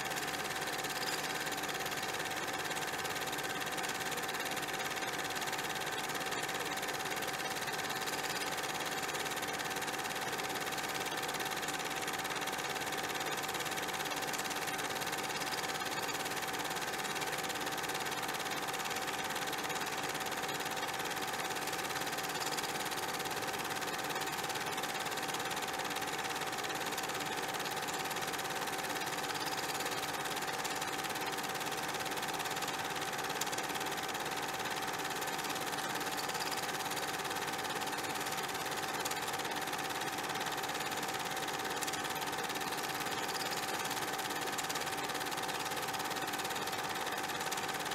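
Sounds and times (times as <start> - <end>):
mechanical whir with high hum: 0.0 - 47.9.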